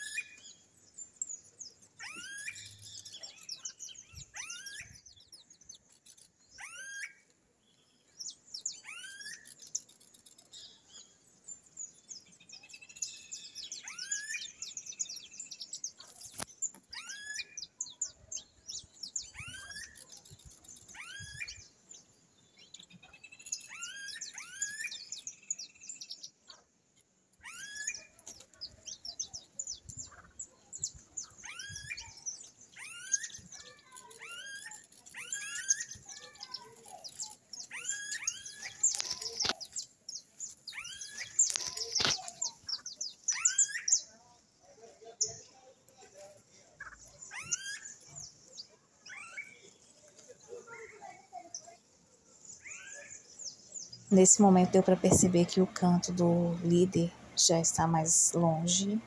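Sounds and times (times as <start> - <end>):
high bird chirps: 0.0 - 26.6, 27.4 - 44.2, 46.8 - 51.8, 52.5 - 59.0.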